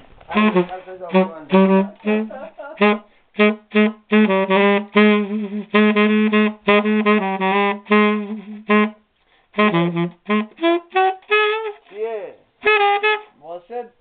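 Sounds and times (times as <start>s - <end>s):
tenor saxophone short notes: 0.3s - 13.4s.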